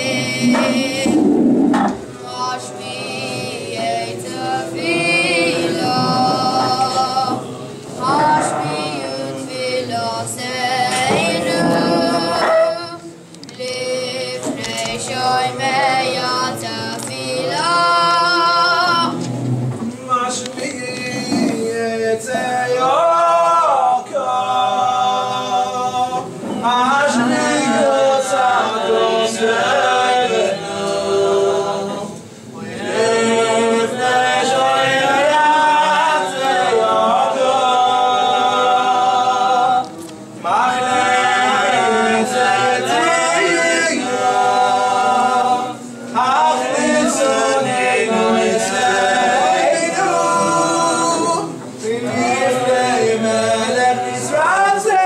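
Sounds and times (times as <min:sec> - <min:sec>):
men singing unaccompanied: 0:00.0 - 0:55.0.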